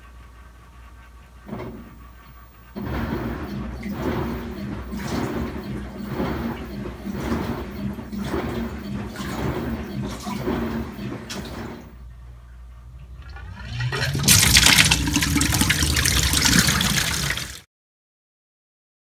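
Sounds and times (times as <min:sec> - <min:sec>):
washer low hum: 0:00.0 - 0:17.7
washer water swishing: 0:01.3 - 0:17.7.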